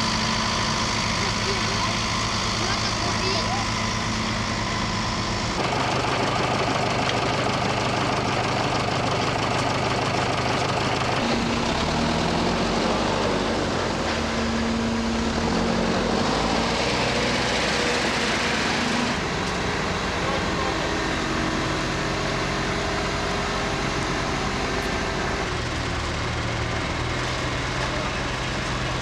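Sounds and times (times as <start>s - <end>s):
steady engine note: 0.0s - 29.0s
tractor engine running: 0.0s - 29.0s.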